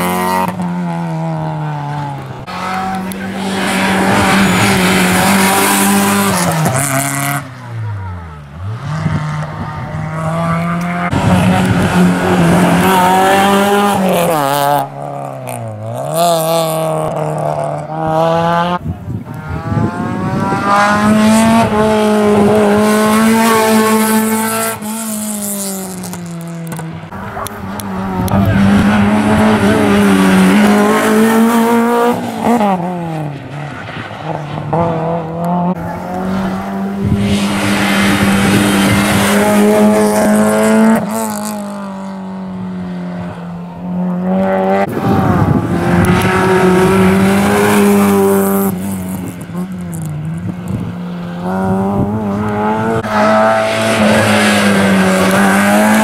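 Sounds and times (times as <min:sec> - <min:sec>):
rally car engine accelerating: 0:00.0 - 0:56.0.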